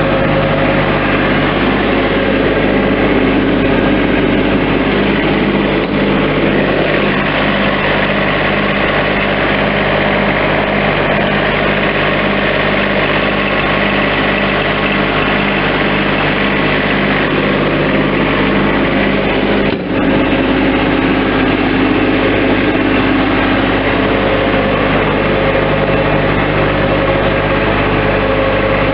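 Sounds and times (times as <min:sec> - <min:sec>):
skid steer diesel engine running: 0:00.0 - 0:28.9.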